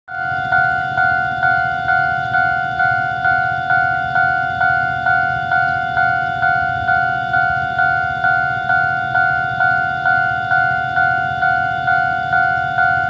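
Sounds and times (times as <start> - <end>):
level crossing bell ringing: 0.1 - 13.0.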